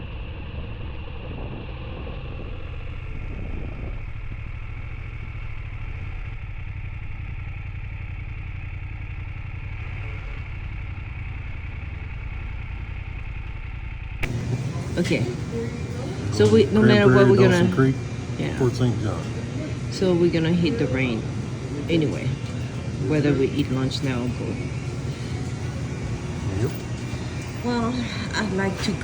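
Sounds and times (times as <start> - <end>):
motorcycle engine running: 0.0 - 16.8, 17.7 - 29.0.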